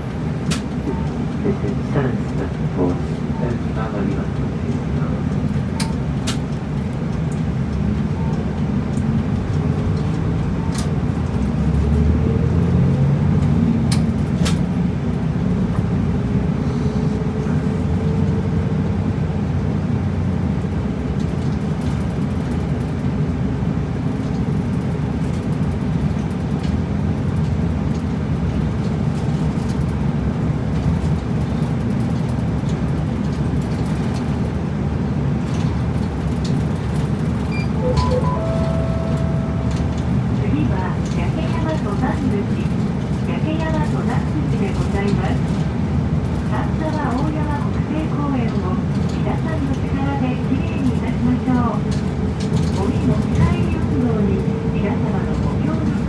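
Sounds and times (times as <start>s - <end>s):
road noise: 0.0s - 47.2s
bus engine drone: 0.0s - 56.0s.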